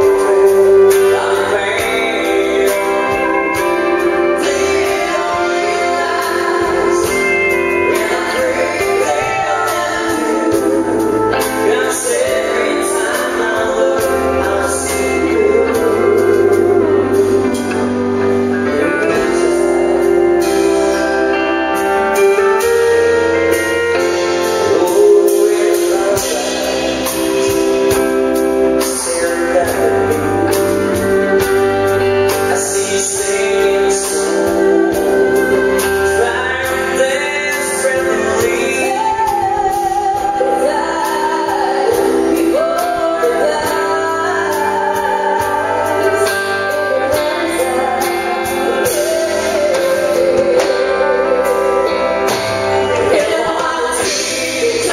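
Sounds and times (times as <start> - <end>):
woman singing: 0.0 - 21.4, 22.2 - 54.9
drums: 0.0 - 54.9
electric guitar: 0.0 - 54.9
keyboard: 0.0 - 54.9
man singing: 0.0 - 54.9.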